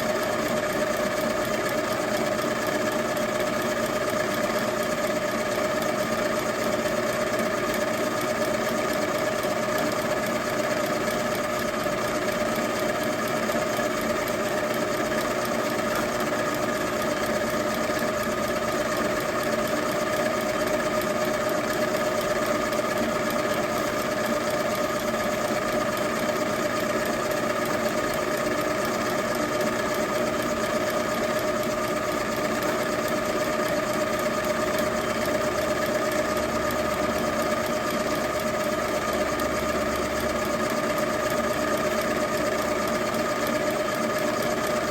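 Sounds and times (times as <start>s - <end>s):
milling machine motor whine: 0.0s - 44.9s.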